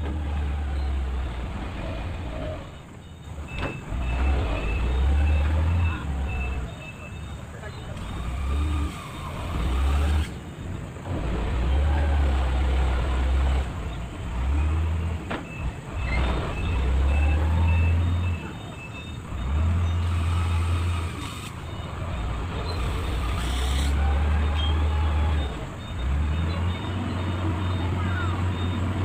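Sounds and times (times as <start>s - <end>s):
diesel engine working: 0.0s - 29.0s
reversing alarm beeping: 0.2s - 29.0s.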